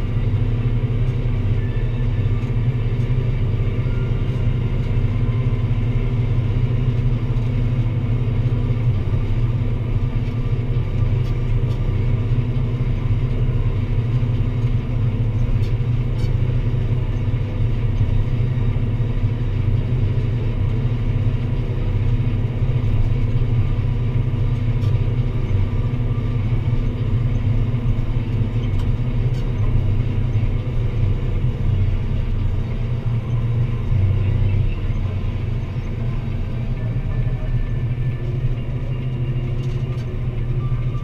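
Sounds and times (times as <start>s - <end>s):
tractor diesel engine rumbling: 0.0s - 41.0s.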